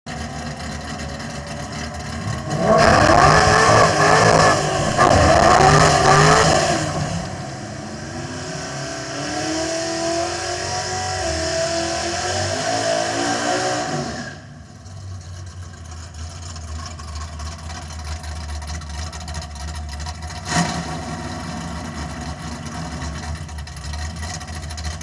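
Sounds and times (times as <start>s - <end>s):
car engine revving: 0.1s - 25.0s.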